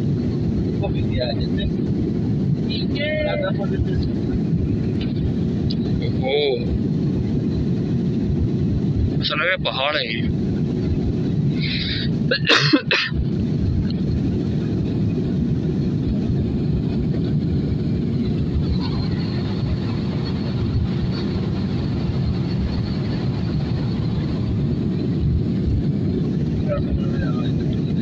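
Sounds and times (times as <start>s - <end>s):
jet airliner cabin rumble: 0.0s - 28.0s.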